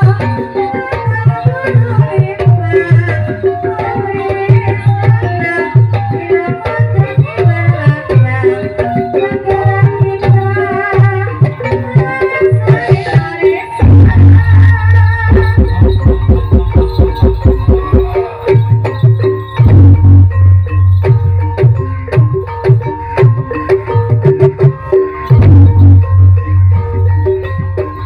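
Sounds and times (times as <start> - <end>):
hand drums beating: 0.0 - 28.0
tuned percussion melody: 0.0 - 28.0.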